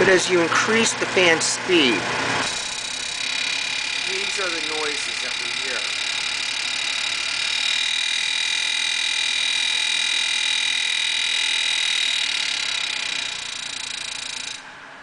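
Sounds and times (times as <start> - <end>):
range hood fan high-pitched whine: 0.0 - 15.0.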